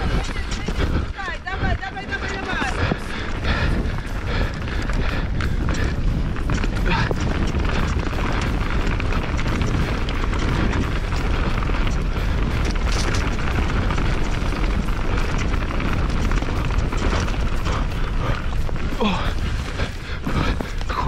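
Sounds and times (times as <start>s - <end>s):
bike rattling and knocking: 0.0s - 21.0s
wind and ground noise rumble: 0.0s - 21.0s.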